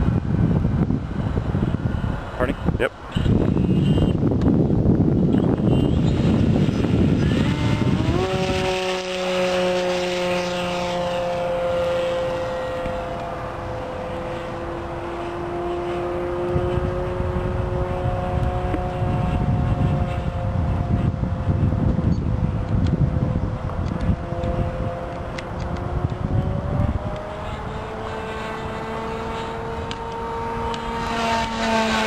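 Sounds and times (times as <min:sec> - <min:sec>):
model plane propeller whine: 0:00.0 - 0:32.0
wind rumble on microphone: 0:00.0 - 0:32.0.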